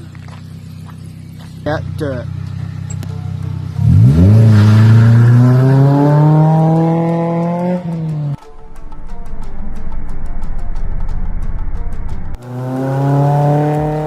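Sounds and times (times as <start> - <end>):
car engine accelerating hard: 0.0 - 8.4, 10.1 - 14.0
background music with beat: 2.5 - 14.0.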